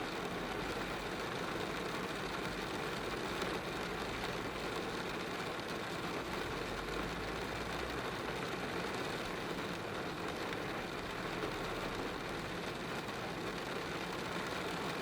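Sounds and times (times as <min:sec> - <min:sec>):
rain on car roof: 0:00.0 - 0:15.0.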